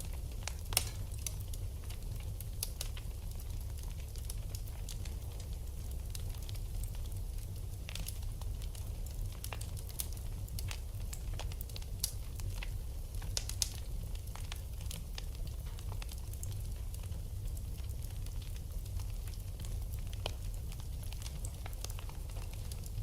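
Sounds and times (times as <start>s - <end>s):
fire crackling and popping: 0.0s - 23.0s
flames rumbling: 0.0s - 23.0s.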